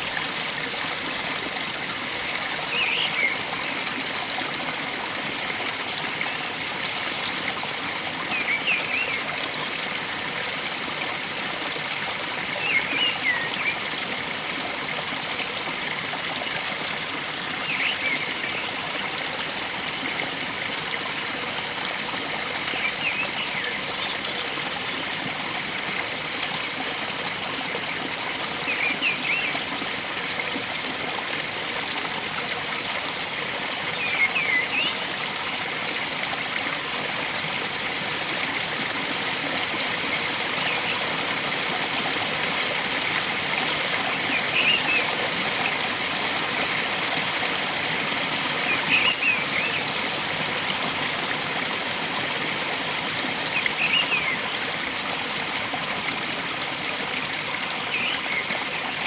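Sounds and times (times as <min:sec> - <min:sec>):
stream flowing and trickling: 0:00.0 - 0:59.0.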